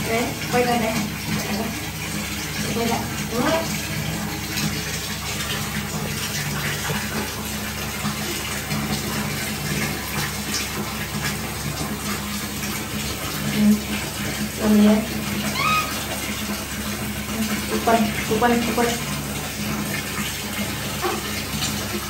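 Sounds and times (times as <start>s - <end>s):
tap water running into basin: 0.0s - 22.0s.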